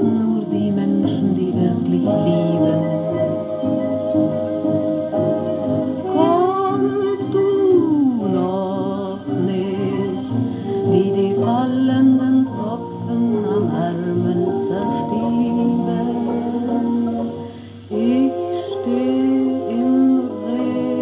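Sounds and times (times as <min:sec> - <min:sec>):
old chanson record with orchestra: 0:00.0 - 0:21.0.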